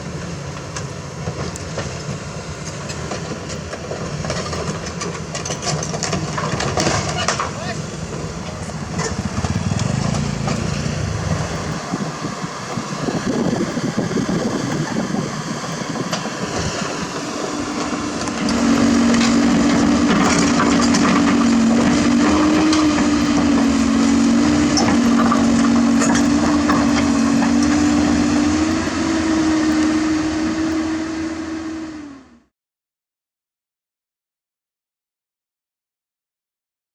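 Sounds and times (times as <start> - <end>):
excavator diesel engine and hydraulics: 0.0 - 32.5
machine whine under load: 0.0 - 32.5.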